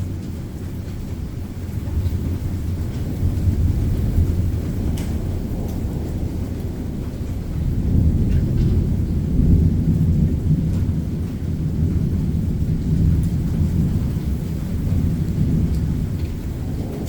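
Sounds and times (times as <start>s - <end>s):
faint raindrop ticks: 0.0s - 17.0s
thunder rumbling: 0.0s - 17.0s.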